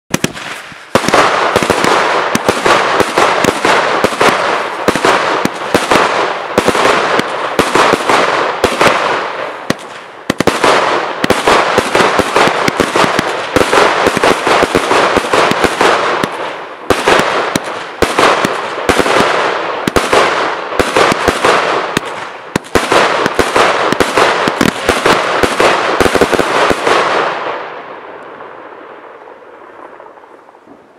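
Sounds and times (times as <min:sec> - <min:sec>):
firework barrage bangs: 0:00.1 - 0:27.9.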